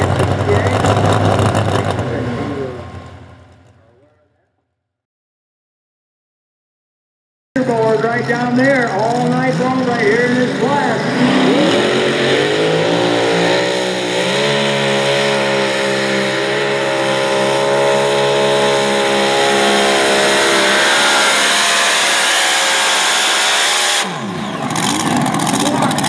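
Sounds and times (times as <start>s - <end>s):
tractor engine at full throttle: 0.0s - 4.1s, 7.6s - 26.0s.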